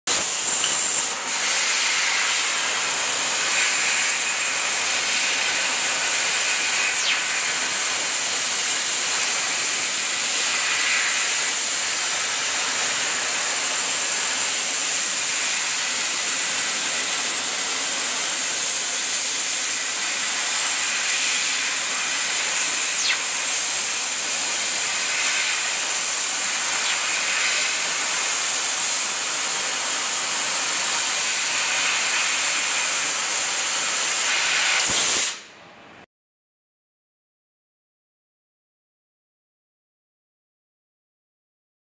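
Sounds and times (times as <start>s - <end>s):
laser cutter gas jet hissing: 0.1s - 35.5s.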